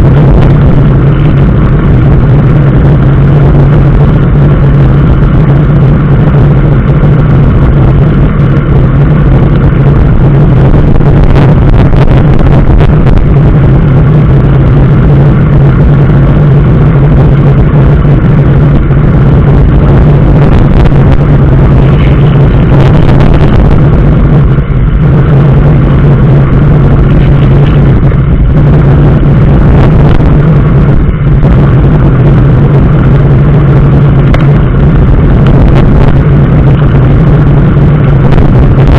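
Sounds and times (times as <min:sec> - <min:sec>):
road and wind noise: 0:00.0 - 0:38.9
vehicle engine drone: 0:00.0 - 0:38.9.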